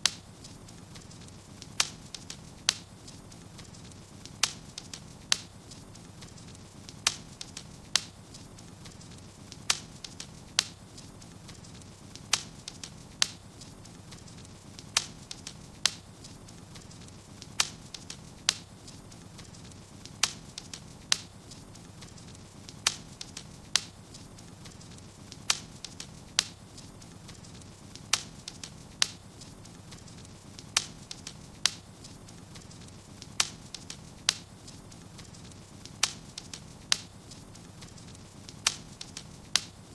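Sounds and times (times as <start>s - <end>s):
fire low steady rustle: 0.0s - 39.9s
wood fire crackling and popping: 0.0s - 39.9s.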